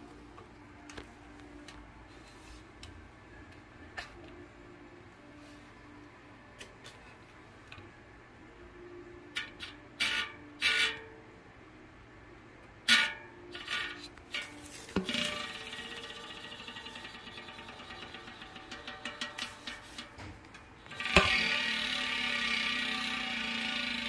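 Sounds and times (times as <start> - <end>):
music: 0.0 - 22.4.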